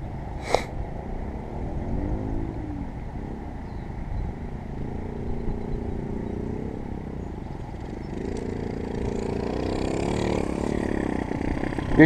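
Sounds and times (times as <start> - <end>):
dirt bike riding up: 0.0 - 12.0.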